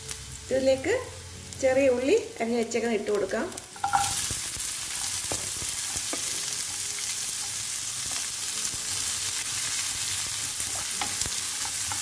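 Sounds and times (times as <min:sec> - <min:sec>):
shallots sizzling in hot oil: 0:00.0 - 0:12.0.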